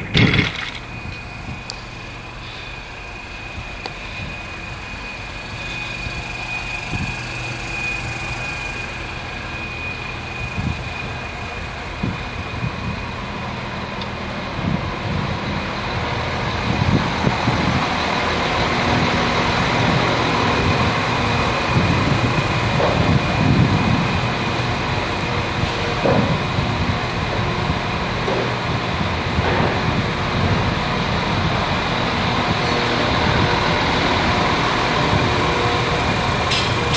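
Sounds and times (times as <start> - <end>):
diesel railcar engine rumble: 0.0 - 36.9
high whine: 0.0 - 36.9.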